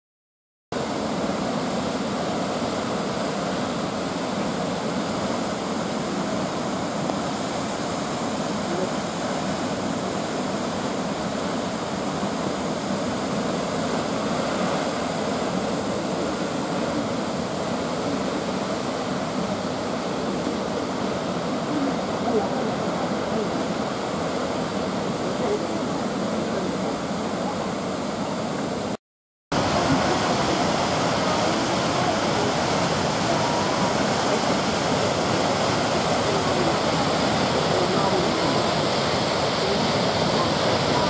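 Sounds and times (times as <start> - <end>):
large waterfall rushing: 0.8 - 41.0.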